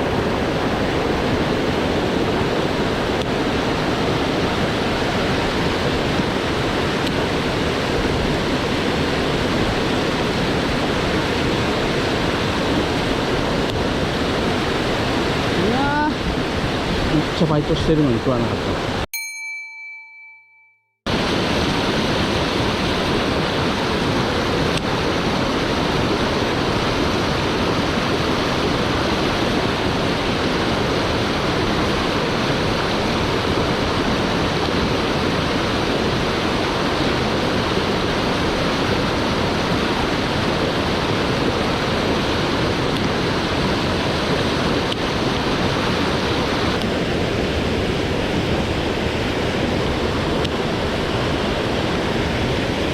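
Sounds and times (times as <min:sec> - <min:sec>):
stream rushing: 0:00.0 - 0:19.0, 0:21.1 - 0:52.9.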